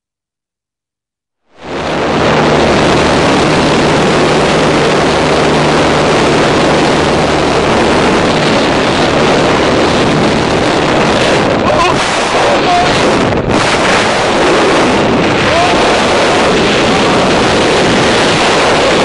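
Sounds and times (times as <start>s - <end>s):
plane engine and propeller: 1.5s - 19.0s
wind rushing: 1.5s - 19.0s.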